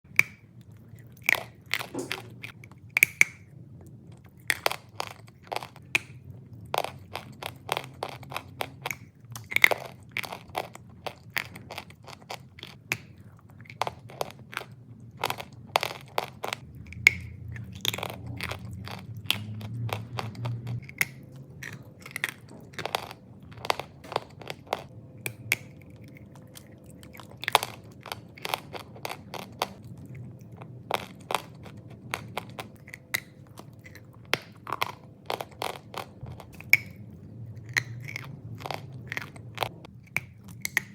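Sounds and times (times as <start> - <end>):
low steady hum: 0.1 - 40.9.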